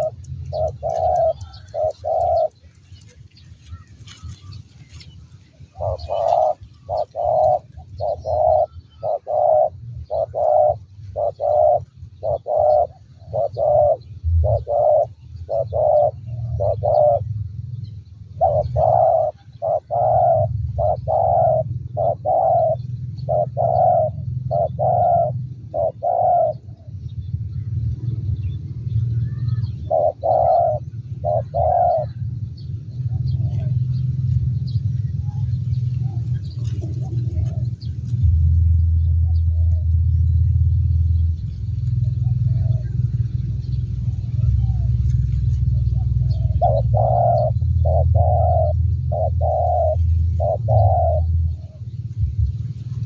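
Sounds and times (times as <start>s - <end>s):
dove cooing: 0.0s - 17.4s, 18.3s - 27.0s, 29.2s - 52.5s
low steady rumble: 0.0s - 53.0s.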